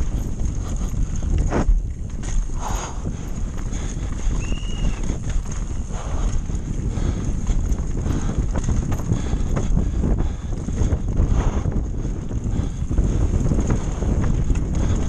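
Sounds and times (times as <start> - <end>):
bike rattling over bumps: 0.0 - 15.0.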